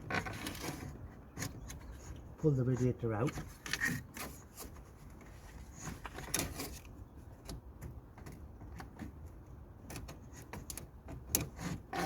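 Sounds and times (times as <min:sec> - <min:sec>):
clicks knocks and scraping: 0:00.0 - 0:12.0.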